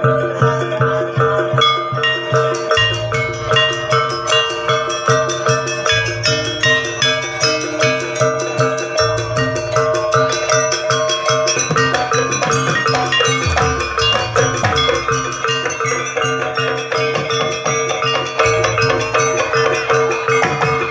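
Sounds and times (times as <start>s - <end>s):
sustained drone tone: 0.0s - 16.8s
drums: 0.0s - 20.9s
metallic mallet notes: 0.0s - 20.9s.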